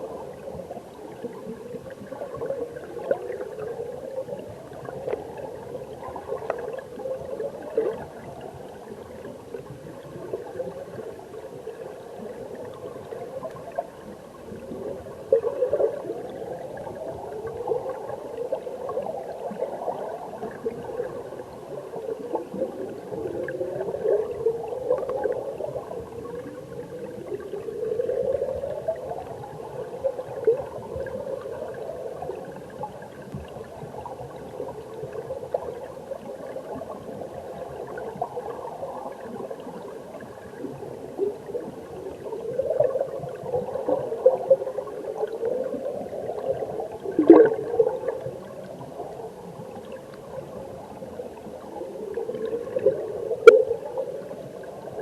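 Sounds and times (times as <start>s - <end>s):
underwater gurgling of flowing water: 0.0s - 55.0s.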